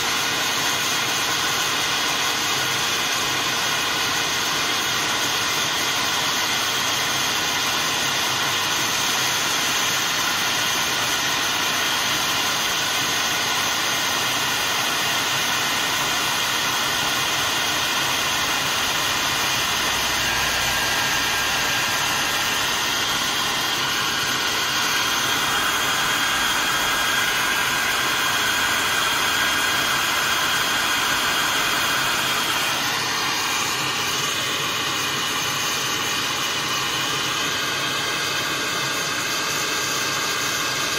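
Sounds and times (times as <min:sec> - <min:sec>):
hot-air dryer blowing: 0:00.0 - 0:40.9.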